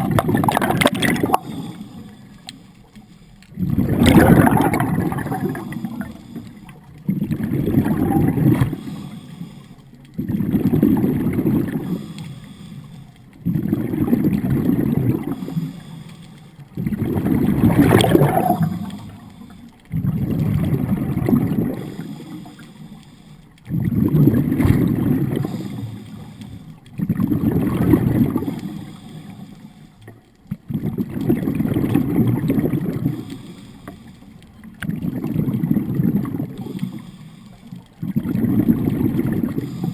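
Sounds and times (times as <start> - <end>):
scuba regulator exhaling bubbles: 0.0 - 2.2, 3.5 - 9.2, 10.2 - 12.3, 13.4 - 15.9, 16.7 - 22.6, 23.7 - 29.4, 30.5 - 37.1, 38.0 - 39.9.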